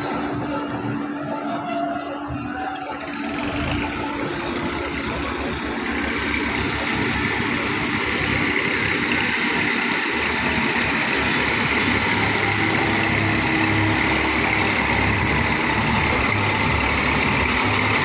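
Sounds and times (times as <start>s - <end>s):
vehicle engine running: 2.3s - 18.0s.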